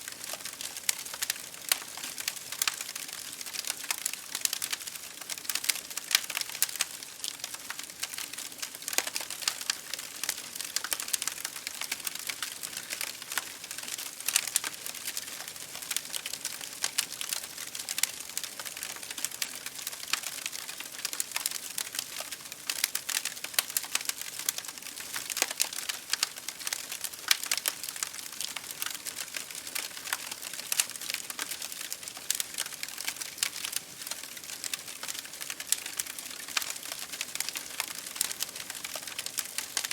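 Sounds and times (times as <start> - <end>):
rain on a window: 0.0 - 39.9
wood fire crackling and popping: 0.1 - 39.9.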